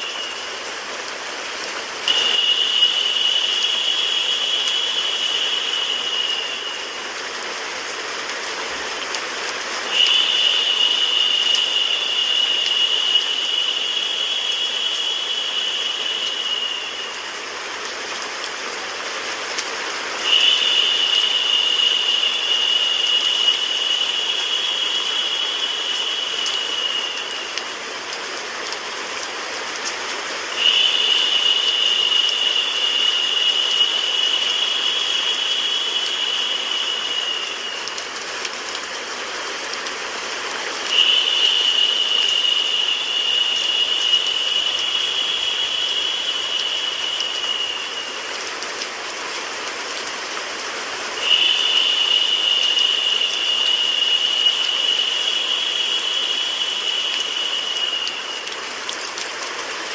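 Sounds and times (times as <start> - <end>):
rain: 0.0 - 59.9.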